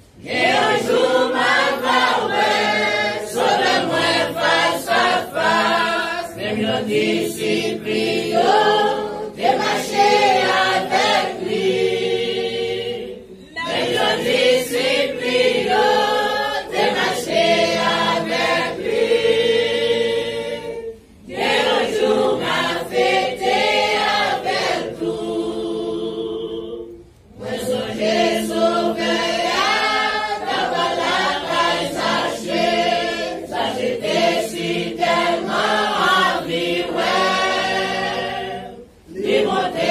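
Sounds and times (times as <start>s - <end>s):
congregation singing a hymn: 0.0s - 39.9s.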